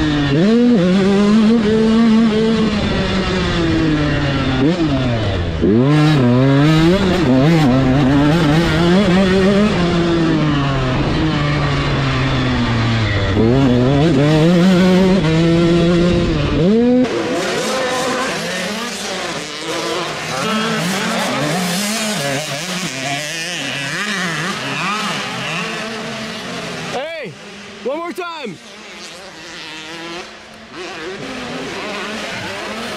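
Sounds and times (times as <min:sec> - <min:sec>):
motocross bike revving: 0:00.0 - 0:32.9
several bikes revving: 0:00.0 - 0:32.9.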